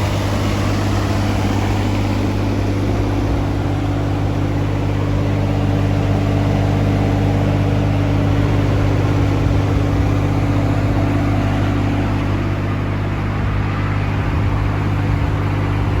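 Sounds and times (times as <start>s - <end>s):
diesel excavator engine droning: 0.0s - 16.0s.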